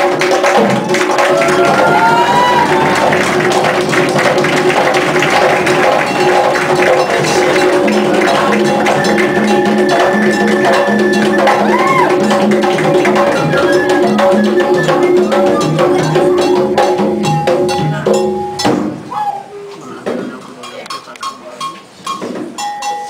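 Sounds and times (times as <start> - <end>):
percussion-led music: 0.0 - 23.0.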